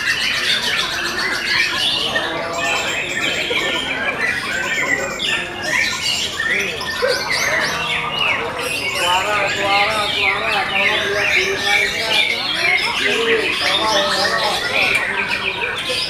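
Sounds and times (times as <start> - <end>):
many songbirds singing: 0.0 - 16.0.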